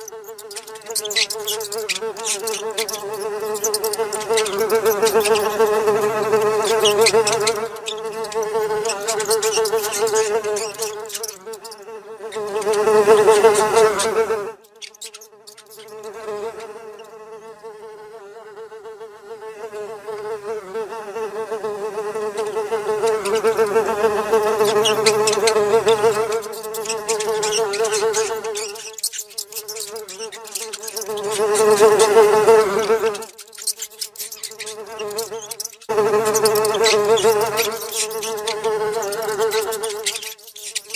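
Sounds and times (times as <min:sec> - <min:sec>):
fly buzzing: 0:00.0 - 0:40.9.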